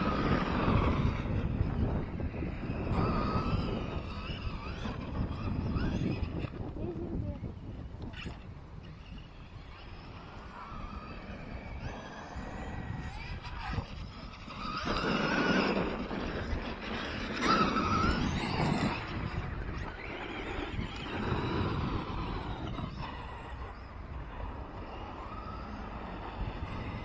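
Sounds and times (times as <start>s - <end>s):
electric motor whine: 0.0s - 27.0s.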